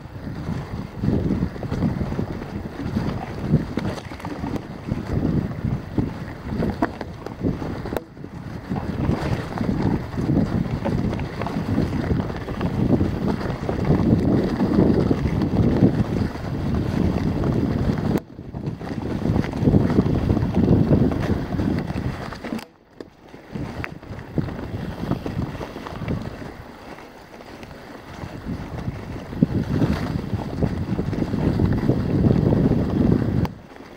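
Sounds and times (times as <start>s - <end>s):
bike rumbling over rough trail: 0.0s - 33.9s
wind buffeting microphone: 0.0s - 33.9s.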